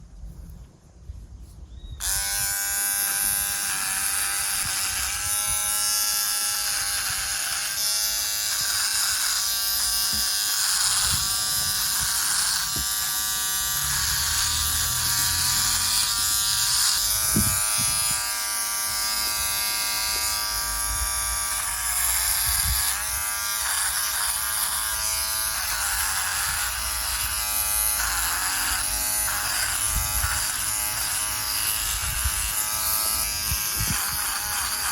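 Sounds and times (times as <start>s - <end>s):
electric trimmer buzzing: 2.0s - 34.9s.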